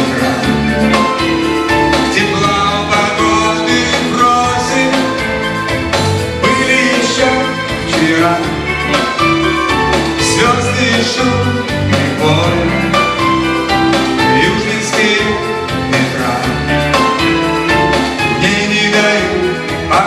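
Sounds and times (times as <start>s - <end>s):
electric guitar: 0.0s - 20.0s
keyboards: 0.0s - 20.0s
person singing: 0.0s - 20.0s.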